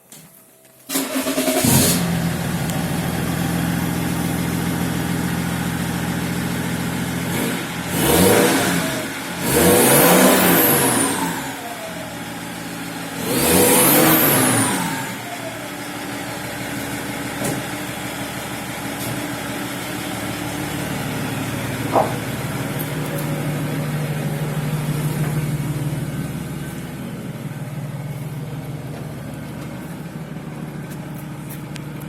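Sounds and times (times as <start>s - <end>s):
diesel engine idling and revving: 0.9s - 32.0s.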